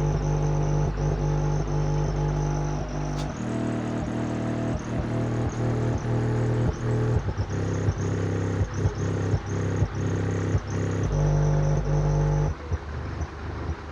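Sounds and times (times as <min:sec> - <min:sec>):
subwoofer playing deep bass: 0:00.0 - 0:13.9.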